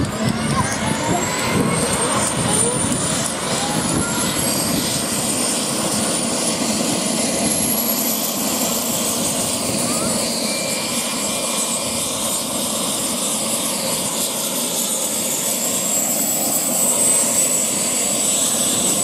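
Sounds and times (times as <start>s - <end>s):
jet engines roaring: 0.0s - 19.0s
turbine whines rising in pitch: 0.0s - 19.0s.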